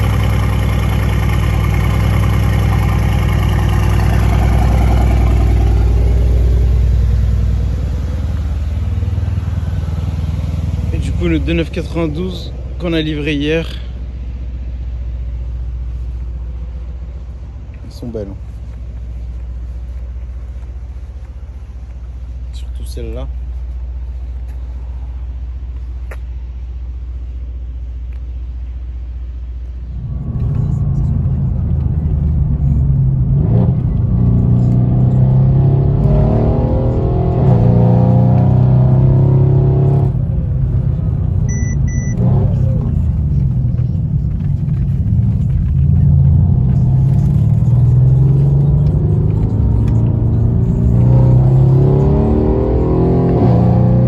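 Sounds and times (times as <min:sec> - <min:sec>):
car engine idling: 0:00.0 - 0:52.6.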